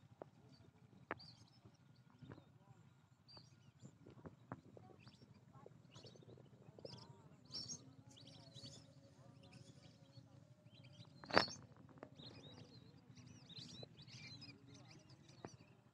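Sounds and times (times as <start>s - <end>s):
low outdoor hum: 0.0s - 15.9s
small birds chirping: 0.0s - 15.9s.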